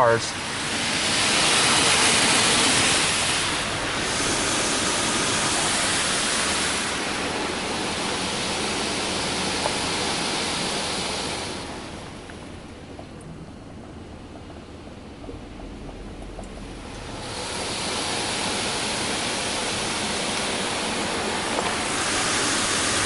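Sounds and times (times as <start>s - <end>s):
water spray hissing on car: 0.0s - 12.8s, 16.6s - 23.0s.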